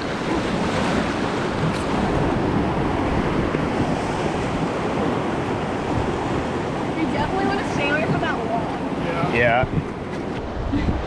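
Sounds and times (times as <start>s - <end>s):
river rushing: 0.0s - 10.8s
wind on microphone: 0.0s - 11.0s.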